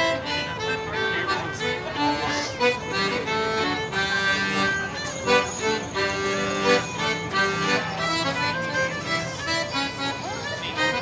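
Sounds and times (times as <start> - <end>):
accordion chords: 0.0 - 11.0
fiddles playing melody: 0.0 - 11.0.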